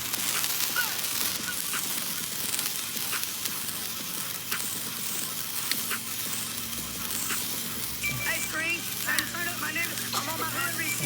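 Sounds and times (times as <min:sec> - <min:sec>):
firework hissing: 0:00.0 - 0:11.0
small crackles and pops: 0:00.0 - 0:11.0.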